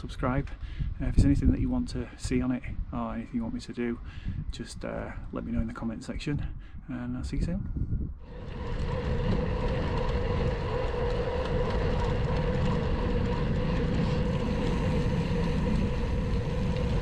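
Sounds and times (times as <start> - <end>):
steady low rumble with hum: 0.0 - 17.0.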